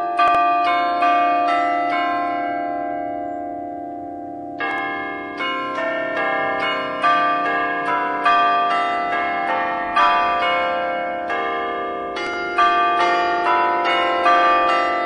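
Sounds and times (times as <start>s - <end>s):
bells playing slow tune: 0.0s - 15.0s.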